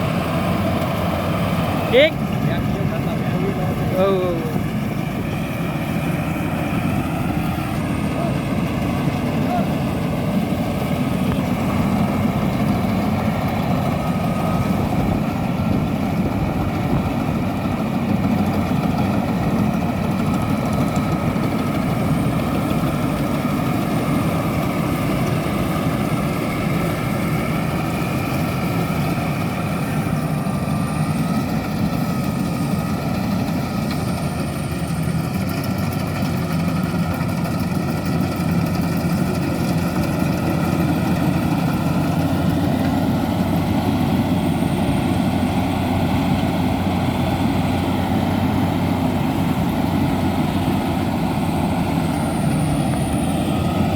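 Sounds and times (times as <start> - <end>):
harvester engine running: 0.0 - 53.9.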